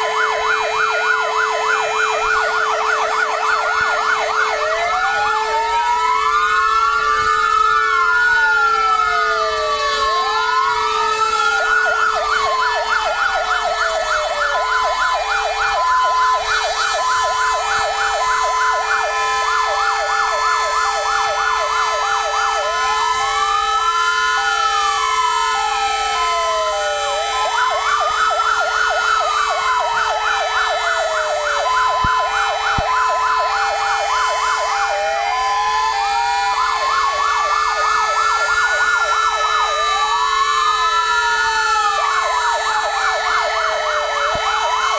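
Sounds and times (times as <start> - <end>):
siren fast yelp: 0.0 - 44.9
siren slow wail: 0.0 - 44.9
steady siren tone: 0.0 - 44.9
two-tone hi-lo siren: 0.0 - 44.9.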